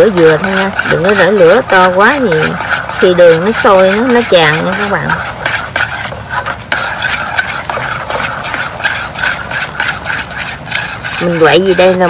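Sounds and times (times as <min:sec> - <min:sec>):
syrup bubbling: 0:00.0 - 0:12.0
utensil scraping a pan: 0:00.0 - 0:12.0.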